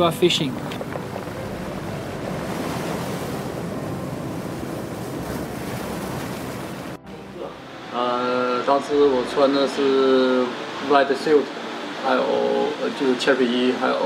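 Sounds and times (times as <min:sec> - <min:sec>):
surf washing over rocks: 0:00.0 - 0:14.0.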